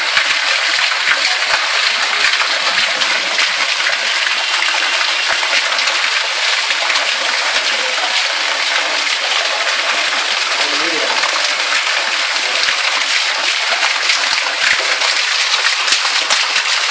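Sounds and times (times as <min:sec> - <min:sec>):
rainwater pouring into well: 0:00.0 - 0:16.9.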